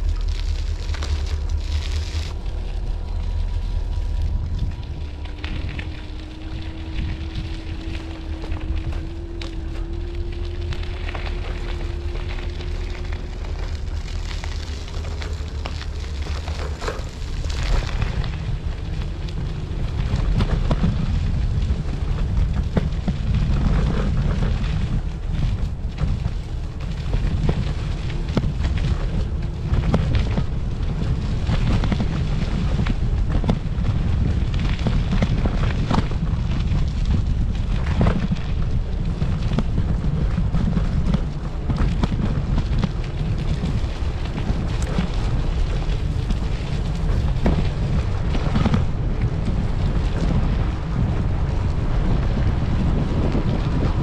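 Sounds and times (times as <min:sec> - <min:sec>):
wheels clicking and rattling: 0:00.0 - 0:54.0
wind buffeting microphone: 0:00.0 - 0:54.0.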